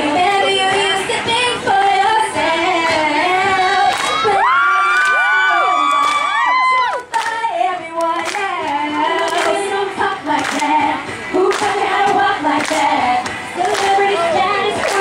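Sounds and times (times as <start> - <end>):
women singing into microphones: 0.0 - 15.0.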